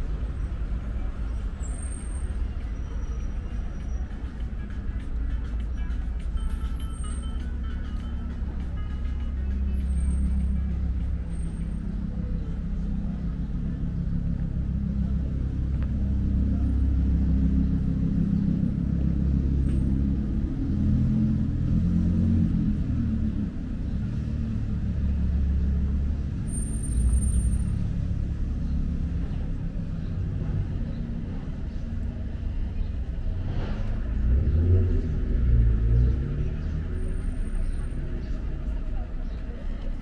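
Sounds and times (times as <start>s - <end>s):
car and bus engines passing: 0.0s - 40.0s.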